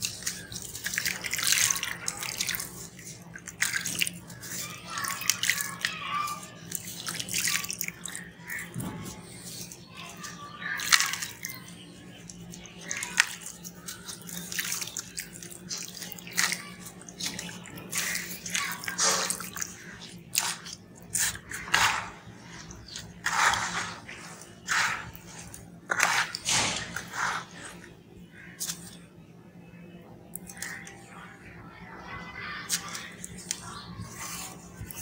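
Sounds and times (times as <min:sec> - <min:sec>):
wet cement chunks crumbling: 0:00.0 - 0:29.0.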